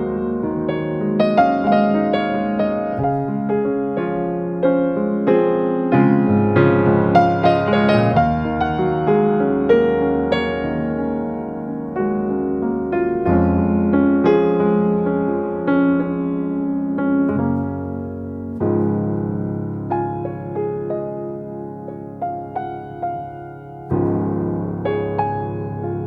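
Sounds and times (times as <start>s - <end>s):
soft piano music: 0.0s - 26.0s.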